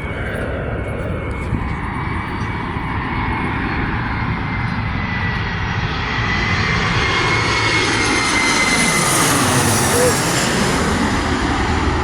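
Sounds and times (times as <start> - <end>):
airplane engines roaring: 0.0 - 12.0.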